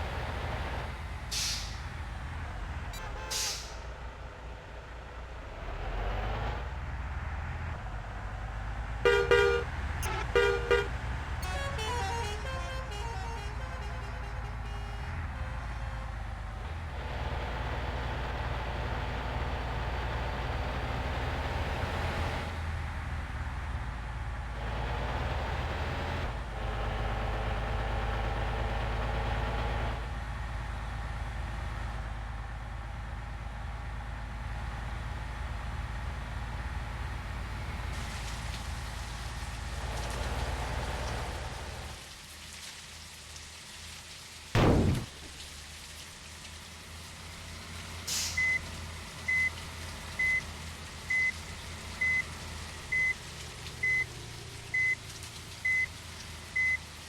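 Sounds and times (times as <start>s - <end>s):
hissing road noise: 0.0s - 57.0s
vehicle engine rumble: 0.0s - 57.0s.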